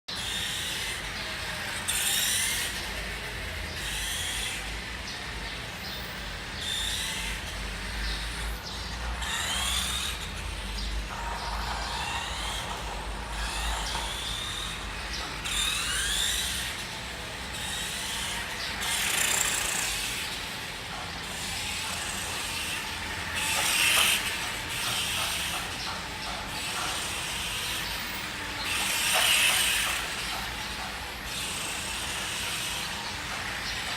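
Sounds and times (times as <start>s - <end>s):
electric motor whining: 0.1s - 33.9s.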